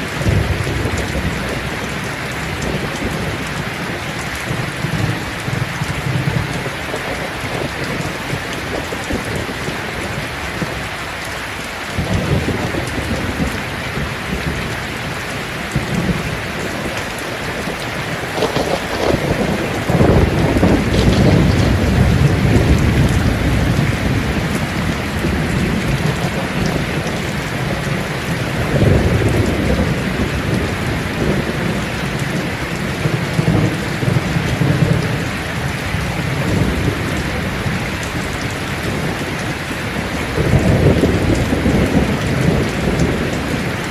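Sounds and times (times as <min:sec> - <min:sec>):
rolling thunder: 0:00.0 - 0:10.9, 0:11.9 - 0:43.9
rain falling on leaves: 0:00.0 - 0:43.9.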